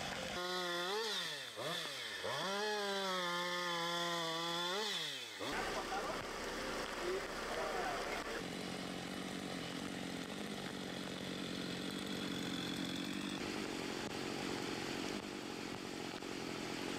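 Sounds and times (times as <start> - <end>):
small engine running: 0.0 - 16.9.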